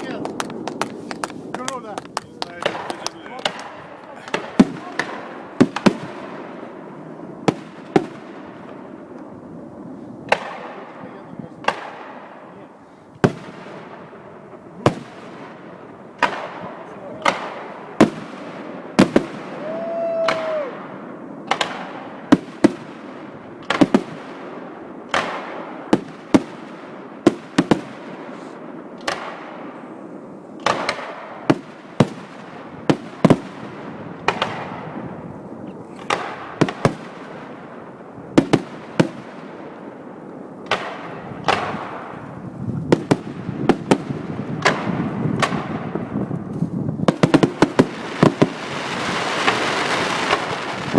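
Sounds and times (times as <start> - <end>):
fireworks bursting with bangs: 0.0 - 50.9.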